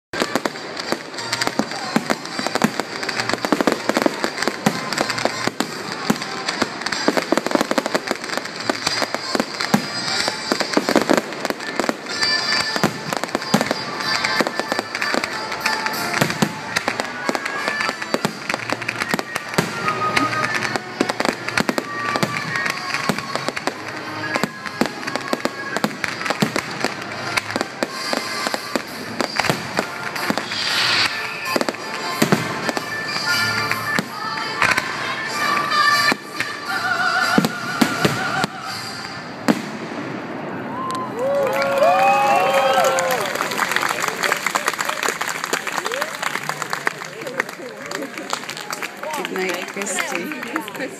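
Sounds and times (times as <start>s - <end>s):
firework bangs: 0.2s - 50.9s
fireworks crackling: 0.2s - 50.9s.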